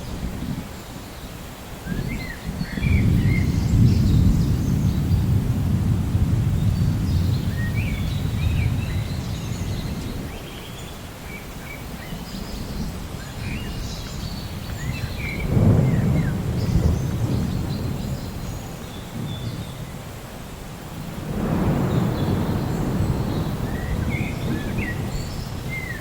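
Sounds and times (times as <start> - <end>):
small birds chirping and whistling: 0.8 - 5.2, 6.6 - 20.0, 21.6 - 26.0.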